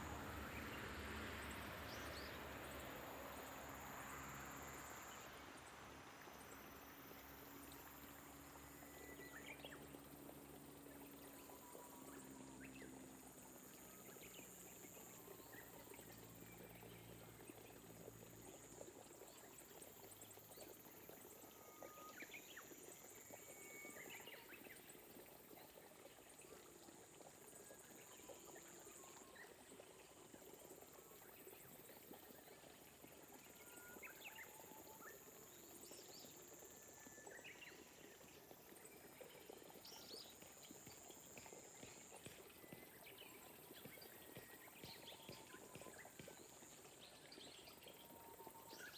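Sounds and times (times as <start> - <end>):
light rain dripping: 0.0 - 48.9.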